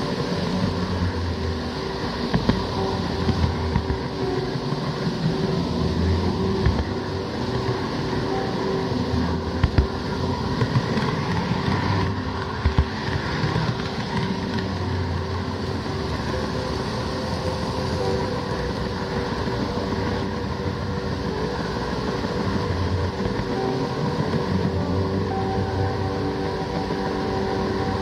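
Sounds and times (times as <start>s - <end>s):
wheels clicking over rail joints: 0.0s - 28.0s.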